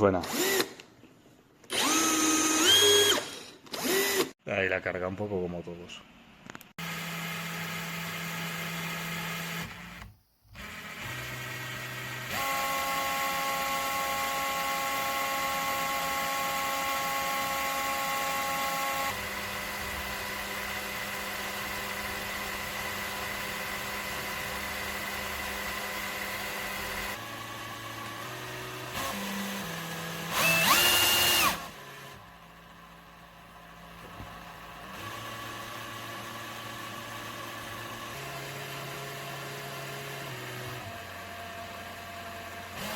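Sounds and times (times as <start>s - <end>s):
cordless drill motor whining: 0.1s - 0.8s, 1.6s - 4.4s, 6.8s - 33.0s, 33.7s - 42.9s.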